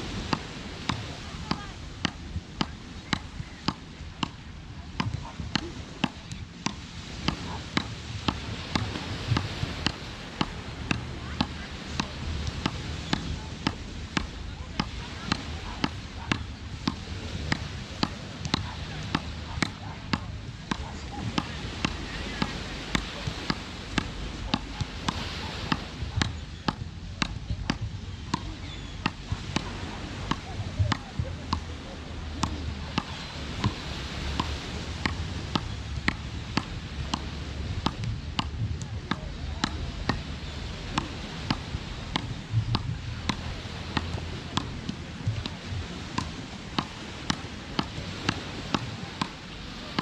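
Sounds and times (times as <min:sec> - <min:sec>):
wooden paddles hitting ball: 0:00.0 - 0:50.0.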